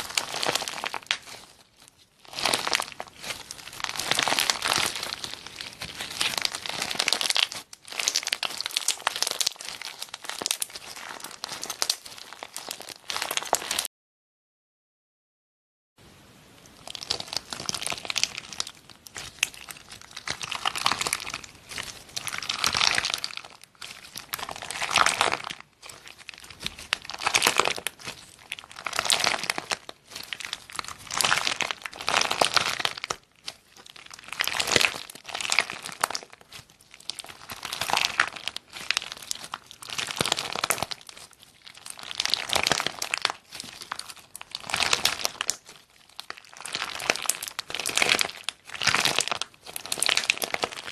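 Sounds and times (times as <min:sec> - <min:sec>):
slime squeezed by hand: 0:00.0 - 0:13.9, 0:16.8 - 0:50.9.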